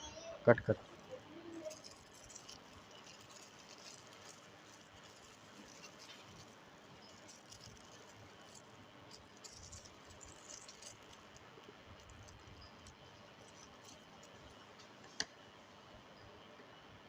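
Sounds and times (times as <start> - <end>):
faint rustling and scraping clicks: 0.7 - 15.4.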